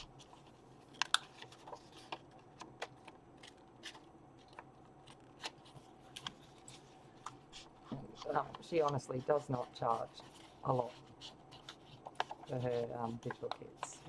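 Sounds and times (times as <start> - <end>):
paper rustling and tapping: 0.0 - 14.0.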